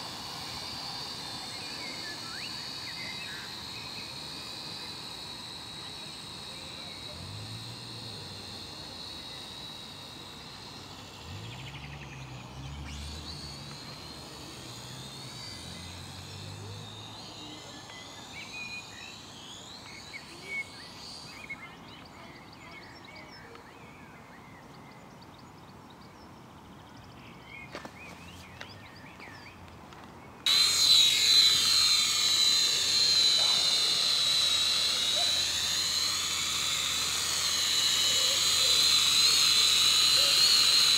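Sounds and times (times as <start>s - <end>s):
toy drone motors whining: 0.0s - 25.2s, 30.4s - 40.9s.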